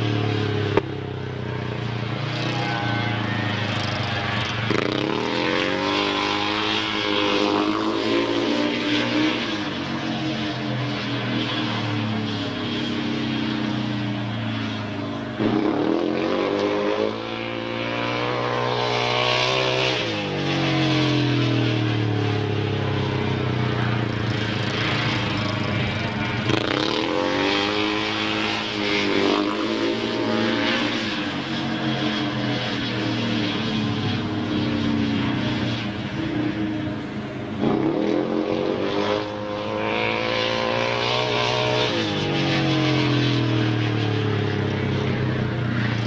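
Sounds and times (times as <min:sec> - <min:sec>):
speedway motorcycle engine revving: 0:00.0 - 0:46.0.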